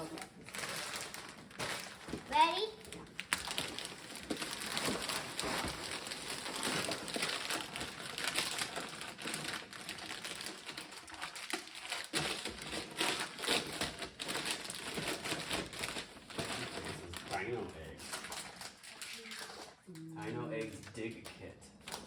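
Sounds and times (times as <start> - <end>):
wrapping paper tearing and crinkling: 0.0 - 19.9.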